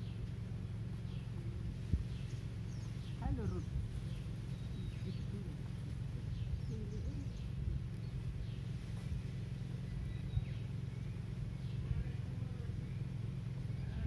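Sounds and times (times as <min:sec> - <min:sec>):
faint bird calls: 0:00.0 - 0:14.0
low rumble: 0:00.0 - 0:14.0.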